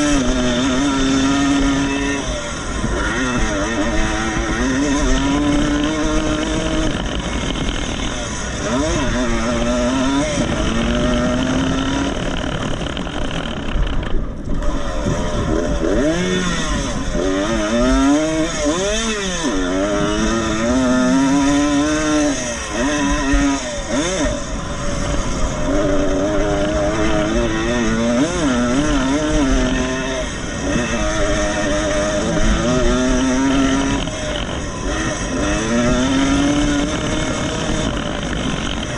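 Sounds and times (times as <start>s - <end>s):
motocross motorcycles revving: 0.0s - 38.9s.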